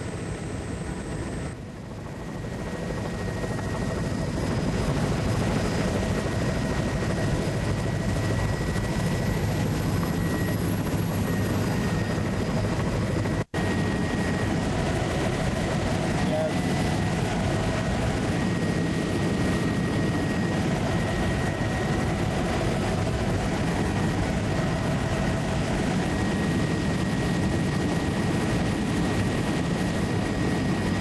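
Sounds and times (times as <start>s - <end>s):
aircraft engine drone: 0.0s - 31.0s.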